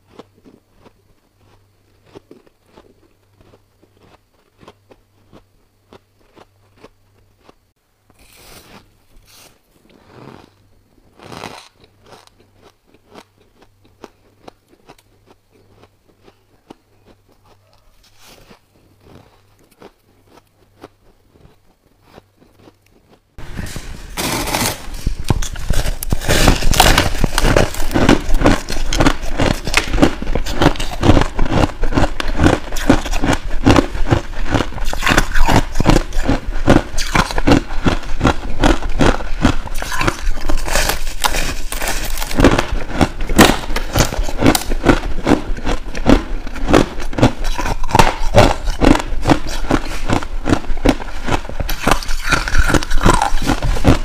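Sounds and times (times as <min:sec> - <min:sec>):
ice being crunched and chewed: 0:00.0 - 0:07.6, 0:08.2 - 0:54.0.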